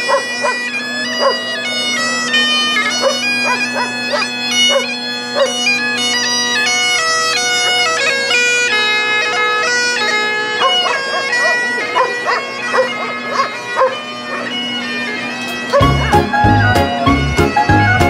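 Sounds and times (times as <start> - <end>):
bagpipes playing a tune: 0.0 - 18.0.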